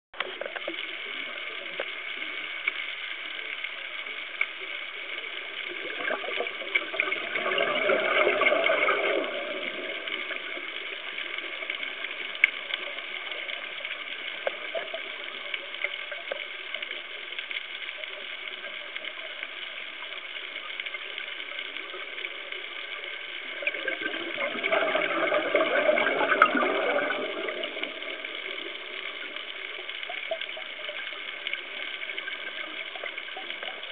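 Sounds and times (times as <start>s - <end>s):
steady hiss: 0.2s - 33.9s
underwater exhaust bubbles: 0.2s - 33.9s.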